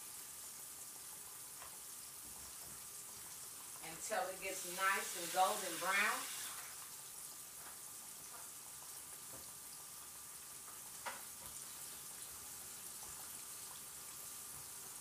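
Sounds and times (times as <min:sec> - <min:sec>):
chicken frying in oil: 0:00.0 - 0:15.0.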